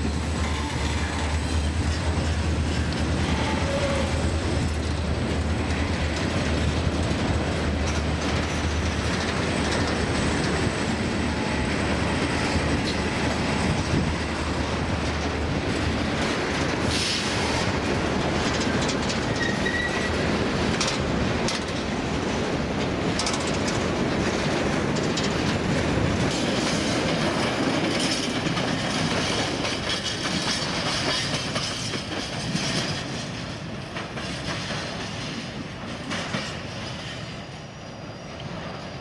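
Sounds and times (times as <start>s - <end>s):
wheels clicking over rail joints: 0.0s - 37.2s.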